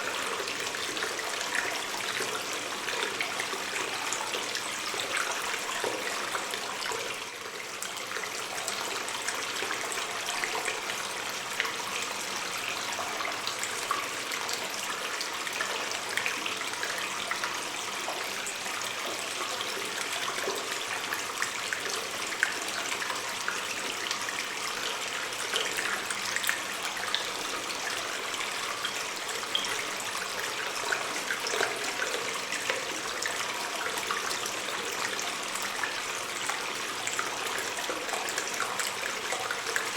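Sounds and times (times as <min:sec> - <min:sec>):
water splashes and drips: 0:00.0 - 0:39.9
water stream trickling: 0:00.0 - 0:39.9.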